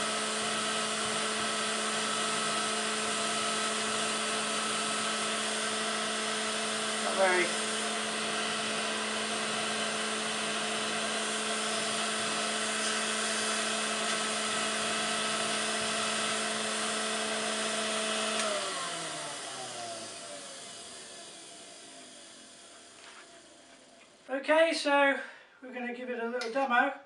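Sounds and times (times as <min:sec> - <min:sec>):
vacuum cleaner whining: 0:00.0 - 0:25.1.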